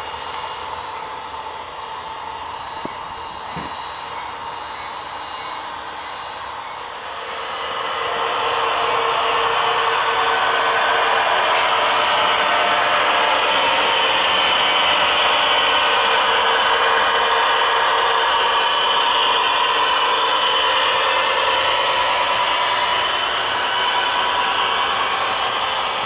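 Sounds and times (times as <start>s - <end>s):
model train mechanical whine: 0.0s - 26.0s.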